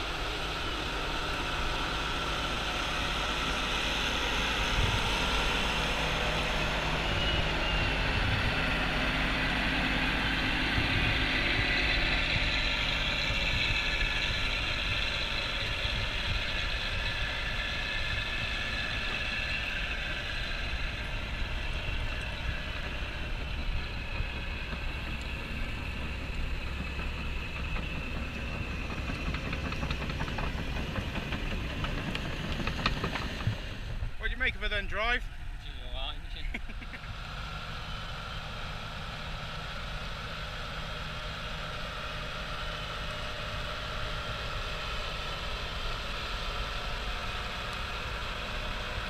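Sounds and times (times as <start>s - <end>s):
diesel engine under load: 0.0s - 49.0s.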